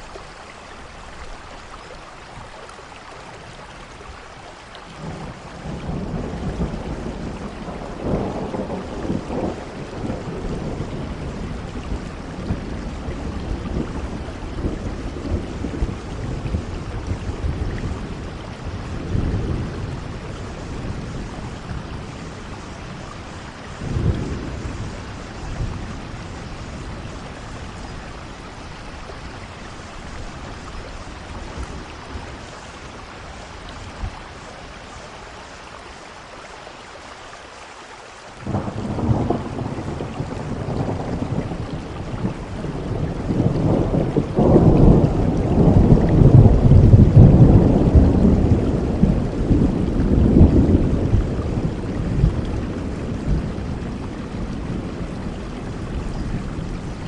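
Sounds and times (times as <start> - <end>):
steady rain: 0.0 - 57.0
low thunder rumbles: 5.0 - 35.0, 38.4 - 57.0.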